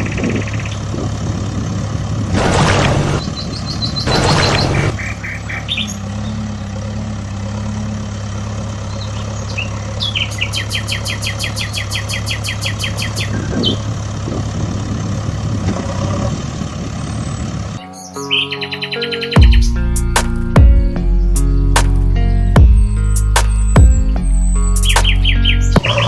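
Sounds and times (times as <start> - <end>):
birds chirping: 0.0 - 26.0
vehicle engine droning: 0.0 - 26.0.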